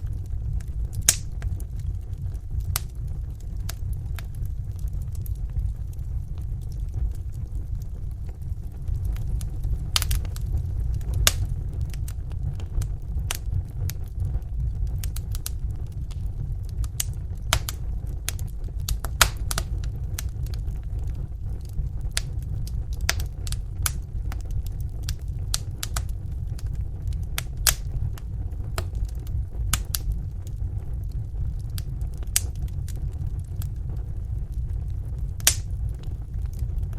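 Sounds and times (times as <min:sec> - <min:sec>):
fire crackles and pops: 0:00.0 - 0:36.9
fire flames rumbling: 0:00.0 - 0:36.9.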